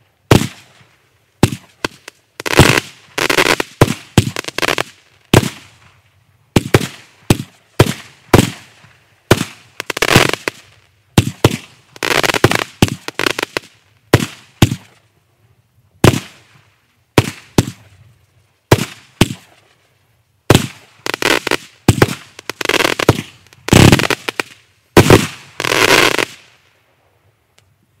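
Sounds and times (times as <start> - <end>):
fireworks crackling: 0.0 - 15.1, 16.0 - 26.8
fireworks popping and bursting: 0.3 - 15.1, 16.0 - 18.0, 18.7 - 19.8, 20.4 - 26.7.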